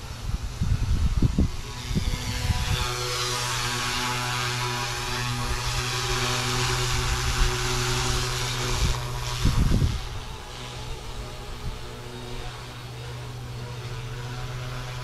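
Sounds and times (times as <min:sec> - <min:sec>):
wind buffeting microphone: 0:00.0 - 0:12.7
rc helicopter motor drone: 0:00.0 - 0:15.0
rotor blades whooshing: 0:00.0 - 0:15.0.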